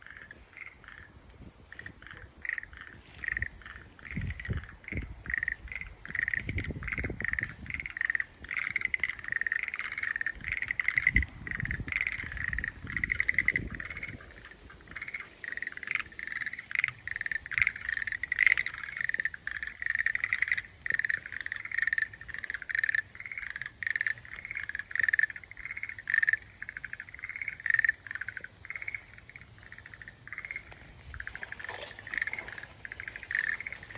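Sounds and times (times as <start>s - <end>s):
frog trilling: 0.0s - 33.9s.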